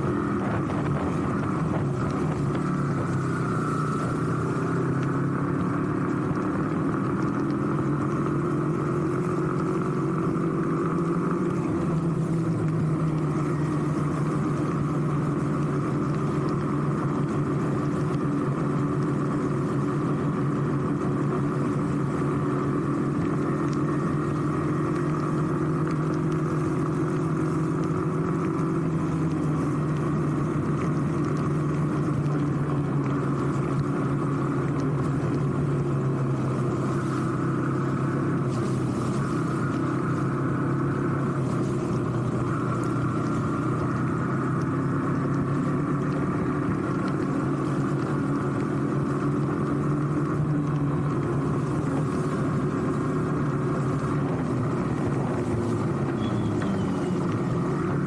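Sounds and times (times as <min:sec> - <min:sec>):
motorcycle engine running: 0:00.0 - 0:58.0
tyre hiss on wet road: 0:00.2 - 0:58.0.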